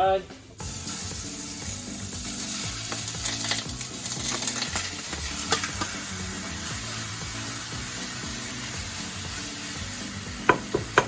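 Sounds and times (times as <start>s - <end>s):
chicken sizzling in frying pan: 0.1s - 11.0s.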